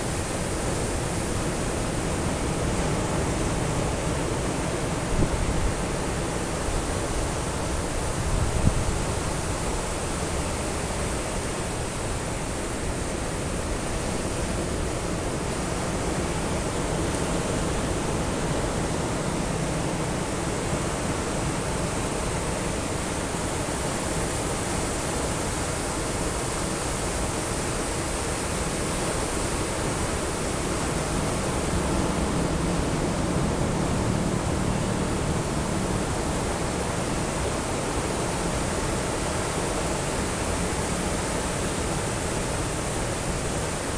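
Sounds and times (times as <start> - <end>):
sea surf breaking on beach: 0.0 - 43.9.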